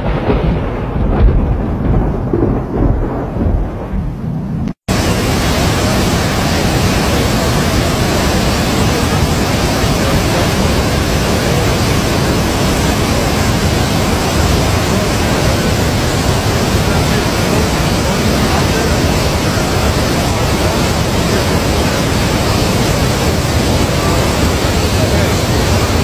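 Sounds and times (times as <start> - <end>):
loud steady rushing noise: 0.0 - 26.0.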